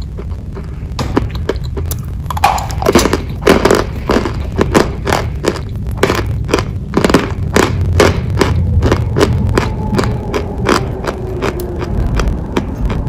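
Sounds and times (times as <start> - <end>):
crunching bites and chewing: 0.0 - 13.0
steady low hum: 0.0 - 13.0.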